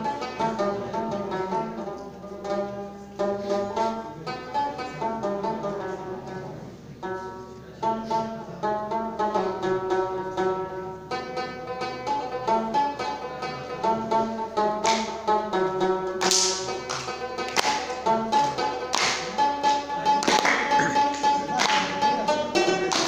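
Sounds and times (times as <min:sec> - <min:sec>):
plucked lute melody: 0:00.0 - 0:23.0.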